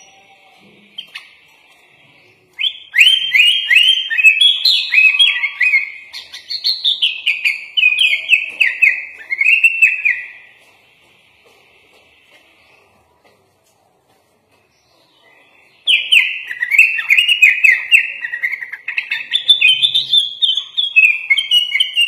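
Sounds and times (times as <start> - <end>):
bird singing sliding chirps: 0.0 - 10.6, 14.7 - 22.0.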